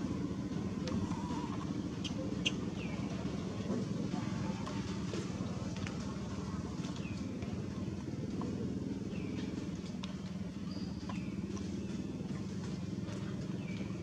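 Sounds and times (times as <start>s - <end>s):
motor humming steadily: 0.0s - 14.0s.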